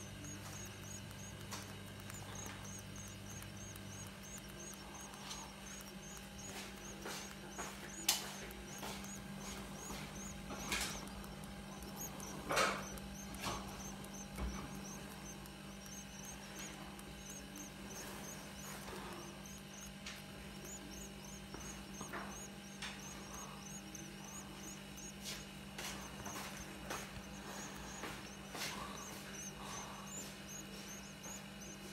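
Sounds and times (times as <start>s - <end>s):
nestlings cheeping: 0.0s - 31.9s.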